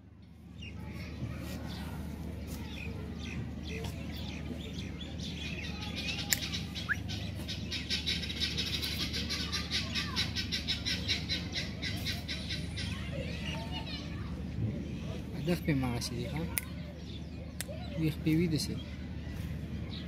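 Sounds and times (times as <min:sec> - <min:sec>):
birds chirping rapidly: 0:00.2 - 0:20.0.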